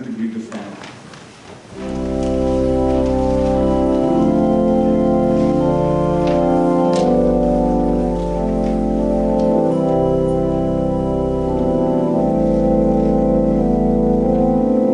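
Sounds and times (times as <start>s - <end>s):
organ playing sustained chords: 1.7s - 14.9s.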